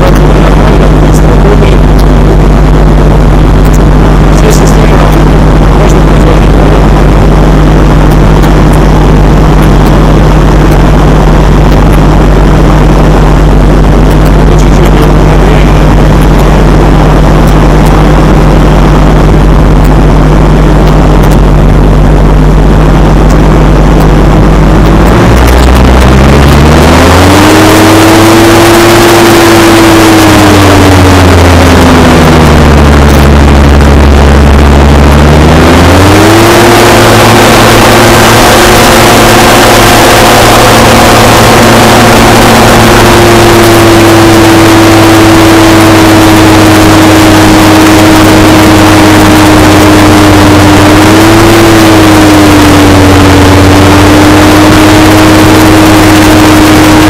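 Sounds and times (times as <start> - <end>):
hovercraft engine revving: 0.0 - 57.0.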